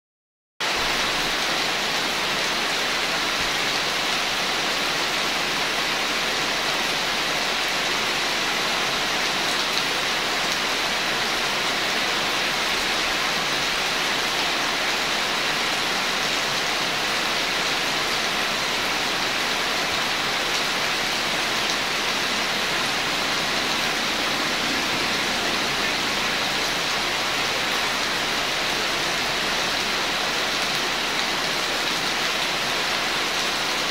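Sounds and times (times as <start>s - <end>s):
steady rain: 0.6s - 33.9s.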